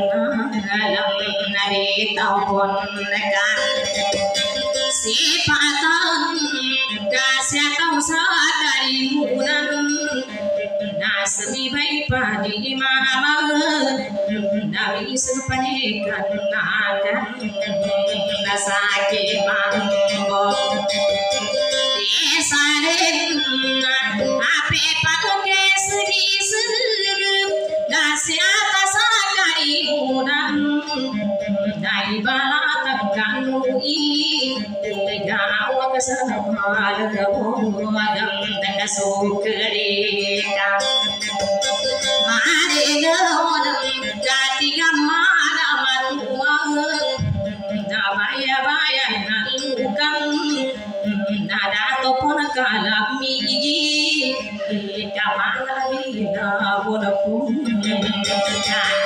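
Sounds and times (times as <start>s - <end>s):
woman singing: 0.0s - 59.0s.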